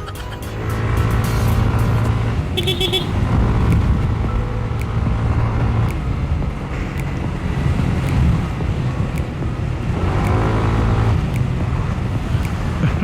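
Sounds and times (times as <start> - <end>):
scooter engine droning: 0.0 - 13.0
wind rushing over microphone: 1.1 - 13.0.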